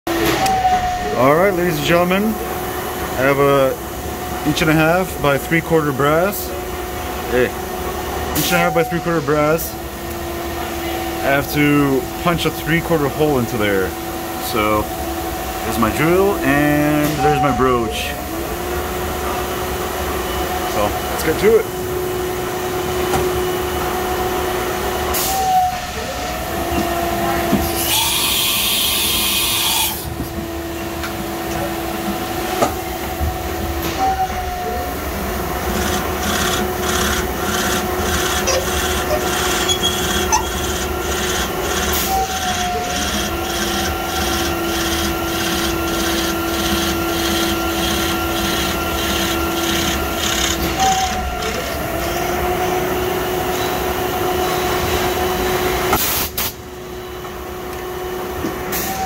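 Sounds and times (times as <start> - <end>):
mill spindle whining: 0.1 - 56.0.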